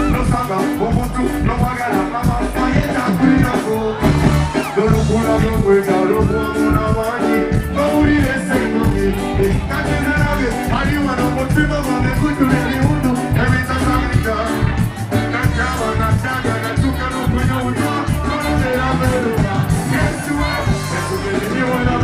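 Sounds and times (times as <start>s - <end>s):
upbeat reggae music with singing: 0.0s - 22.0s.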